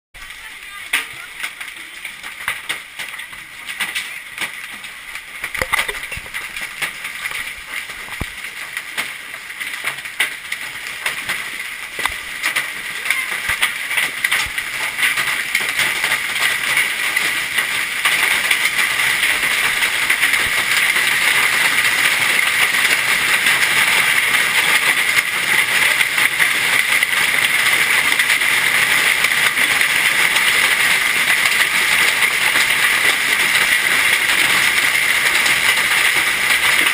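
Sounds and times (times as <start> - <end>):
hailstones pelting down: 0.2 - 36.9.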